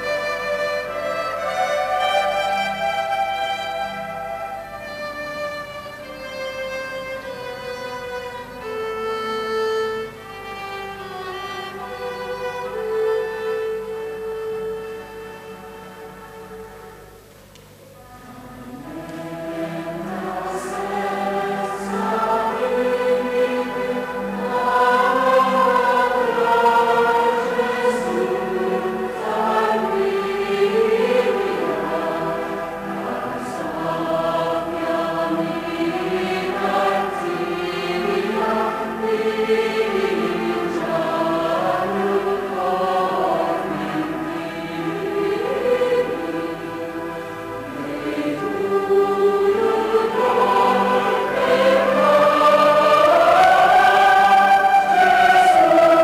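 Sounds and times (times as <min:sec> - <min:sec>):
mixed choir singing: 0:00.0 - 0:17.1, 0:18.0 - 0:56.0.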